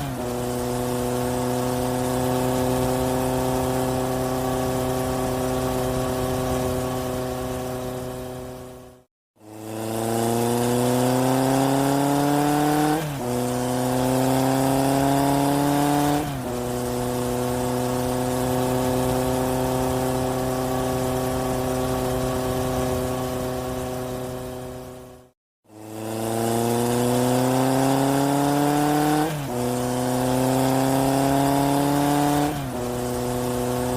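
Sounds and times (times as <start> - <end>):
vehicle engine accelerating: 0.0 - 33.9.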